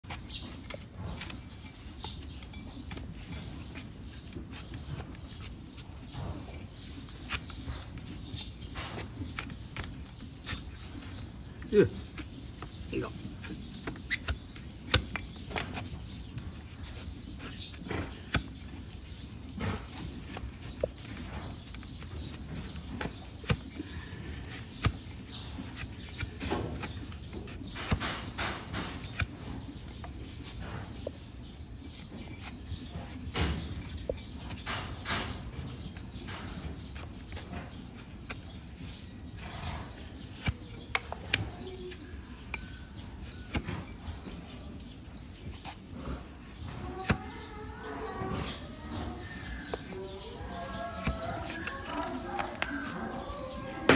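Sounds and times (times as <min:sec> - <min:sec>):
blade scraping hoof: 0:00.0 - 0:53.1.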